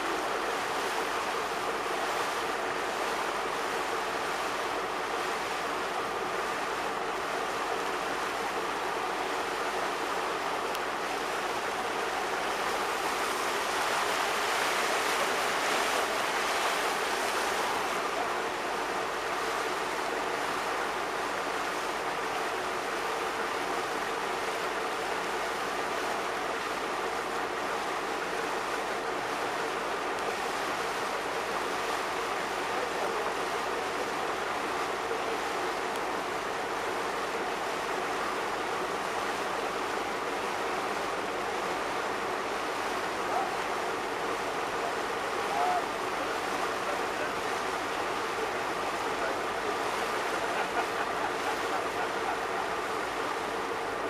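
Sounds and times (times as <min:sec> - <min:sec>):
rushing noise by open water: 0:00.0 - 0:54.0.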